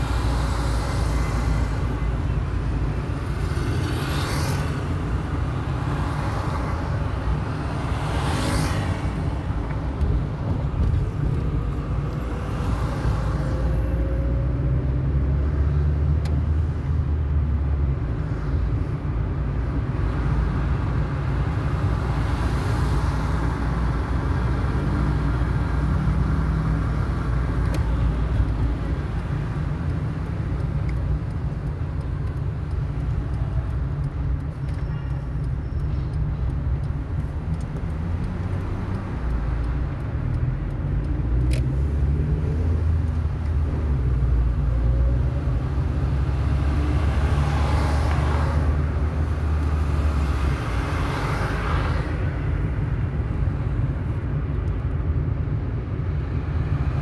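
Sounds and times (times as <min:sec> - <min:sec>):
passing vehicles: 0:00.0 - 0:57.0.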